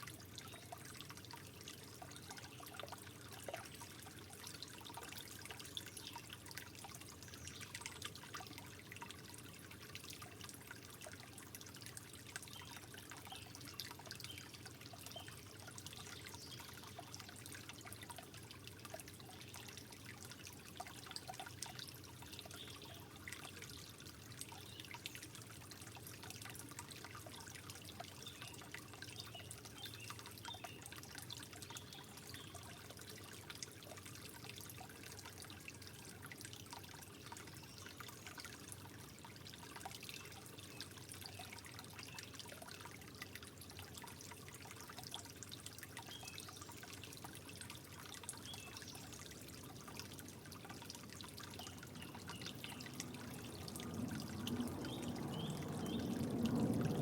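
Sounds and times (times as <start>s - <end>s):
water drips and splashes: 0.0s - 57.0s
water trickling: 0.0s - 57.0s.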